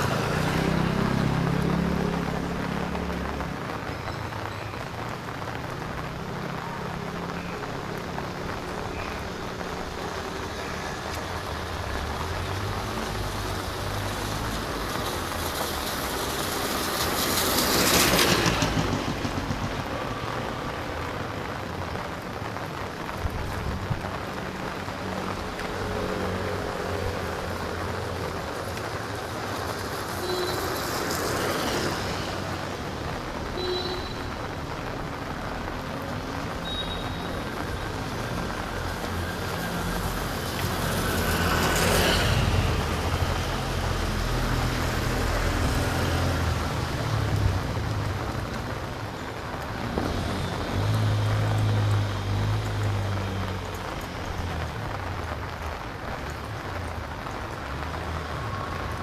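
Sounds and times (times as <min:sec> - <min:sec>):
background traffic noise: 0:00.0 - 0:59.0.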